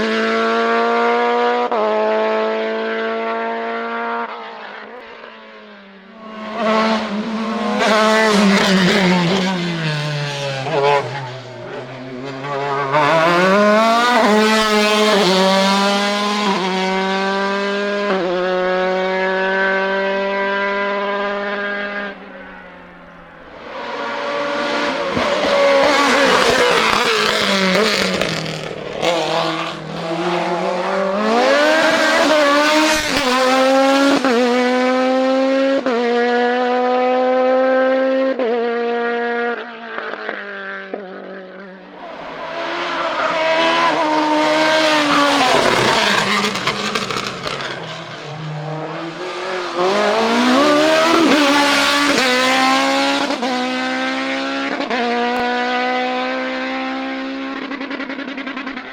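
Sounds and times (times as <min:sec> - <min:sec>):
race car engine at full throttle: 0:00.0 - 0:58.9.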